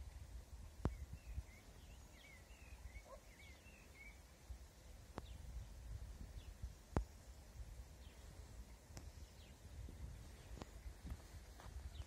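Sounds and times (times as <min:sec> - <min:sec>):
faint warbling bird song: 0:00.6 - 0:12.0.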